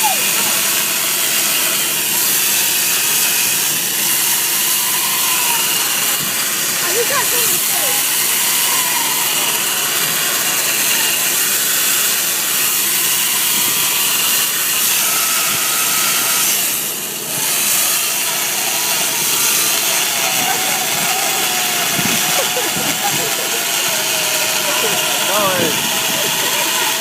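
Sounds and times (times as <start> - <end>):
electric chainsaw cutting ice: 0.0 - 27.0.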